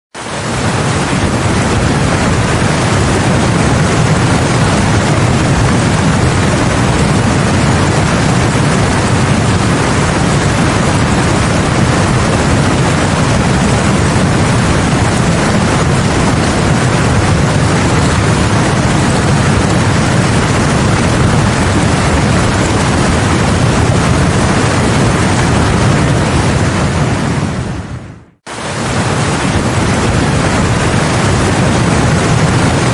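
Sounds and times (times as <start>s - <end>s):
rushing floodwater roar: 0.2s - 27.8s, 28.4s - 32.9s.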